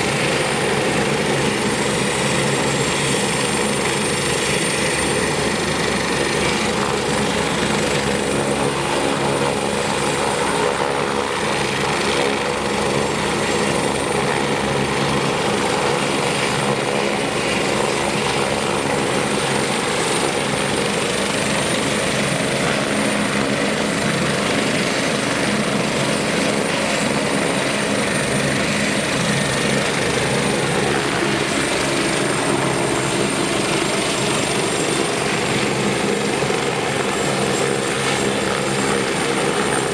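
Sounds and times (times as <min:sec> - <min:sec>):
helicopter rotor beat: 0:00.0 - 0:39.9.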